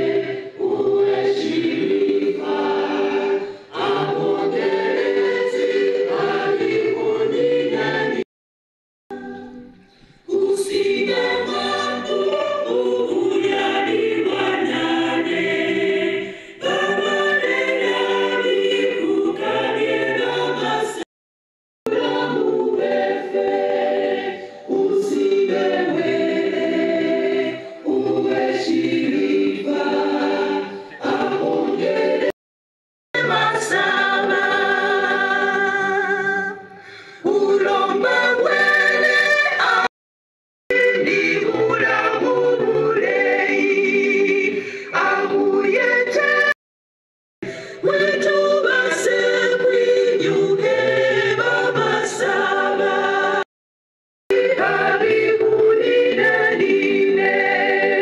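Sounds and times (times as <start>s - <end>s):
choir and crowd singing anthem: 0.0s - 8.3s, 9.1s - 21.1s, 21.9s - 32.4s, 33.2s - 39.9s, 40.7s - 46.6s, 47.8s - 53.5s, 54.3s - 58.0s.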